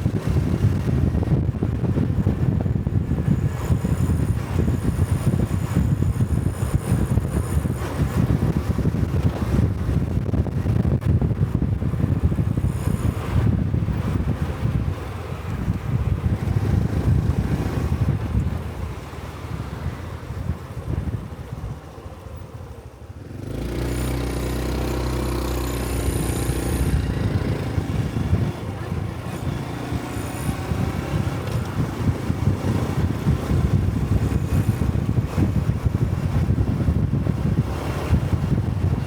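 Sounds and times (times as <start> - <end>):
motorcycle engine: 0.0 - 39.0
wind rushing over microphone: 0.0 - 39.0.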